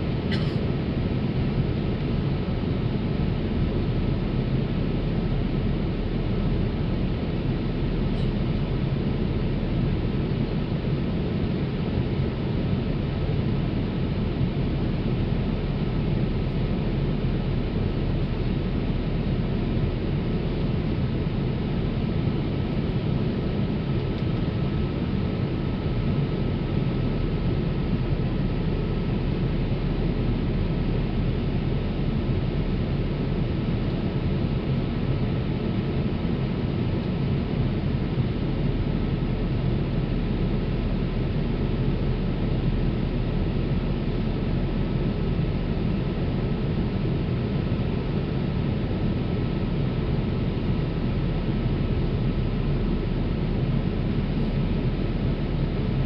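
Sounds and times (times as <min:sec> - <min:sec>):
airliner cabin engine rush: 0:00.0 - 0:56.0.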